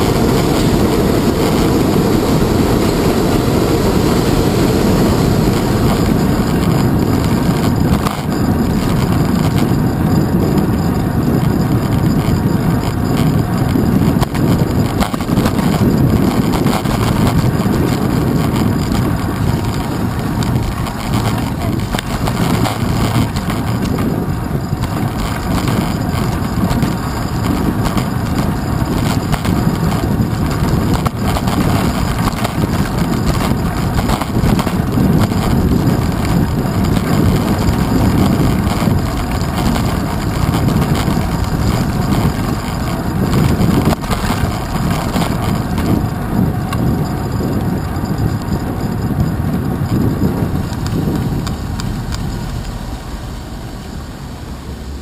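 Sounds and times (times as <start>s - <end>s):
bicycle road vibration: 0.0s - 55.0s
wind rumble: 0.0s - 55.0s.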